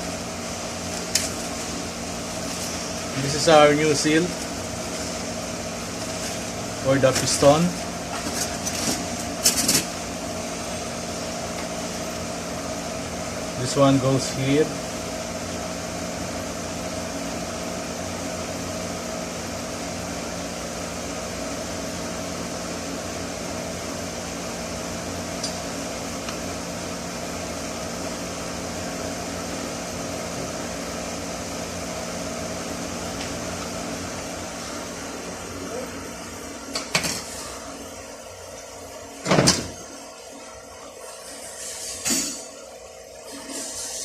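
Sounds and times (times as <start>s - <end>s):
ventilation fan humming: 0.0s - 44.0s.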